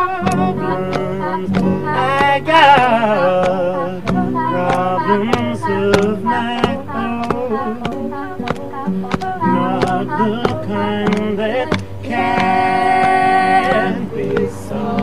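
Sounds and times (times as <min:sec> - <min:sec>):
people singing in harmony: 0:00.0 - 0:15.0
strummed acoustic guitar: 0:00.0 - 0:15.0.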